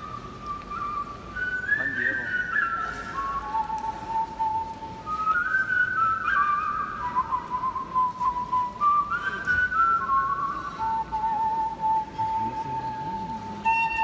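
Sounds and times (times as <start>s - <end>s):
person whistling a slow tune: 0.0s - 14.0s.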